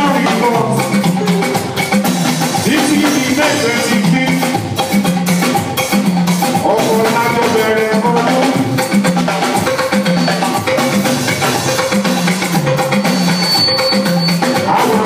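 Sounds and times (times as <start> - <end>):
band playing dance music: 0.0 - 15.0
drums and percussion: 0.0 - 15.0
repeating bass line: 0.0 - 15.0.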